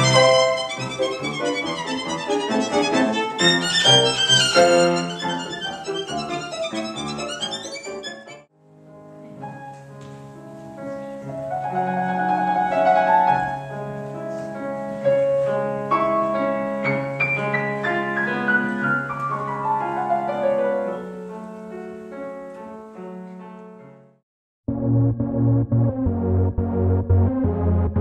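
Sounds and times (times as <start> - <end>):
grand piano playing: 0.0 - 24.1, 24.7 - 28.0.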